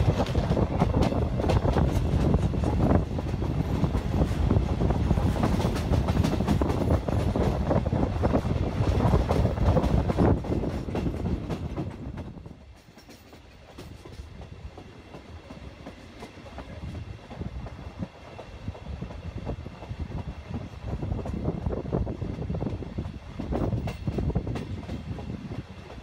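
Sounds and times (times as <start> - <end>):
train rumbling over rails: 0.0 - 26.0.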